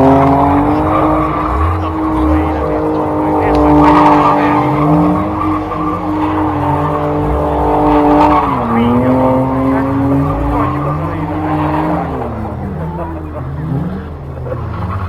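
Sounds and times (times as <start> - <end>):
car engine at high revs: 0.0 - 15.0
tyre squeal: 0.0 - 15.0.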